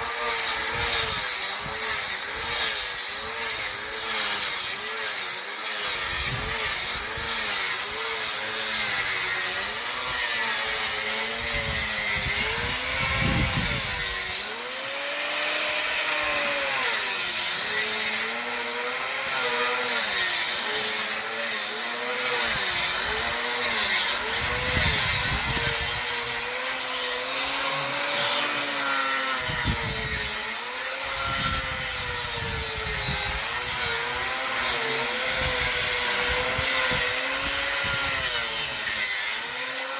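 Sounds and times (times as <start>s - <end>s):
power sander motor: 0.0s - 39.9s.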